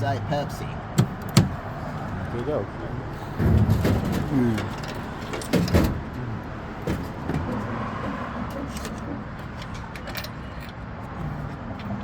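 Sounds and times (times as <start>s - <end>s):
car engines idling: 0.0s - 12.0s
road traffic hum: 0.0s - 12.0s.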